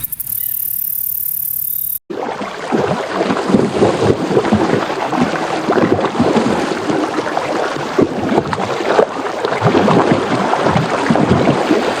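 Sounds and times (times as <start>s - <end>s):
water sloshing and splashing: 2.1s - 12.0s.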